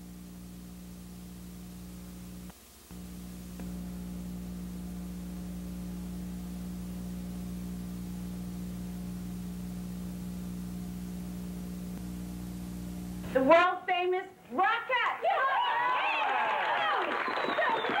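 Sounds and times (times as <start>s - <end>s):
steady electrical hum: 0.0s - 15.4s.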